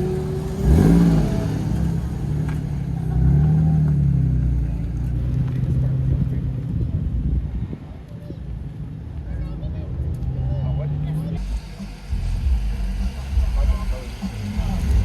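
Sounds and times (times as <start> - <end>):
car engine revving: 0.0 - 7.0, 9.9 - 15.0.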